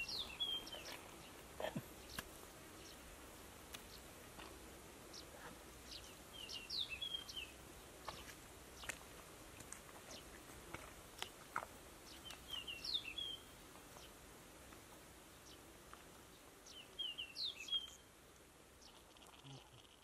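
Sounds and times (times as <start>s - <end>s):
faint open-field ambience: 0.0s - 20.0s.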